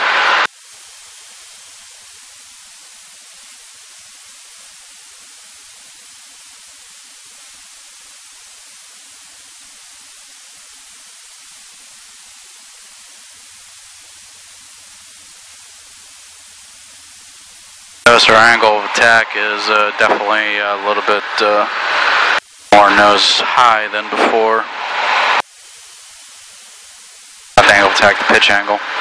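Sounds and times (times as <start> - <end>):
steady electronic hiss: 0.0 - 29.0.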